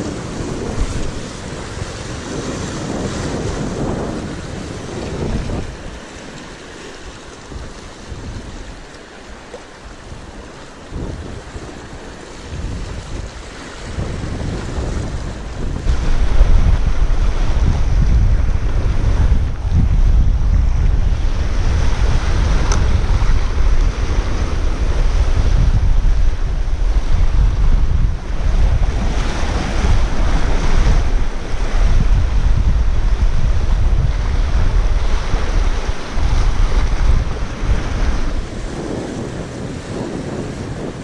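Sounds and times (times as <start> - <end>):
surf washing on shore: 0.0 - 41.0
wind buffeting microphone: 0.0 - 41.0.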